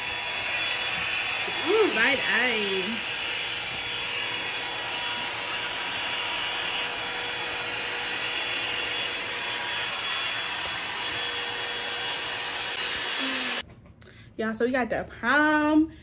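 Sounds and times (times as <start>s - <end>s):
hair dryer blowing: 0.0s - 13.6s.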